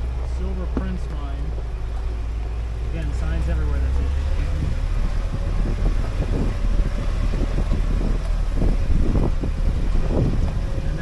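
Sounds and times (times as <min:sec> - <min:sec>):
bumps and rattles: 0:00.0 - 0:11.0
vehicle engine rumble: 0:00.0 - 0:11.0.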